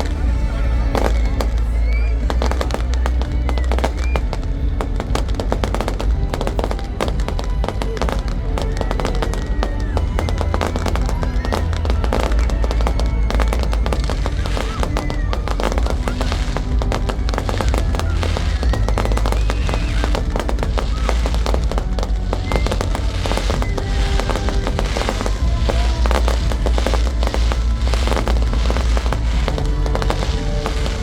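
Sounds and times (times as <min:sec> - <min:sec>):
fireworks crackling and banging: 0:00.0 - 0:31.0
music with heavy bass: 0:00.0 - 0:31.0.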